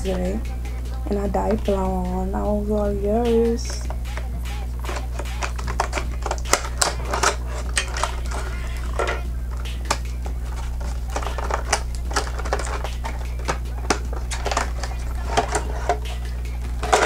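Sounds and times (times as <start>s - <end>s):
steady low hum: 0.0s - 17.0s
plastic tubes clicking and tapping: 1.0s - 17.0s.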